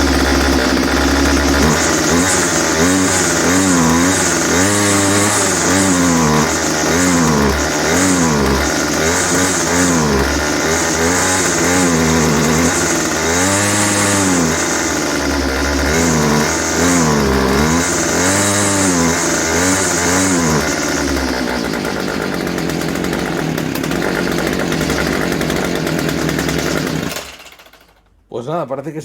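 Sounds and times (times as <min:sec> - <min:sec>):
string trimmer engine revving: 0:00.0 - 0:28.0.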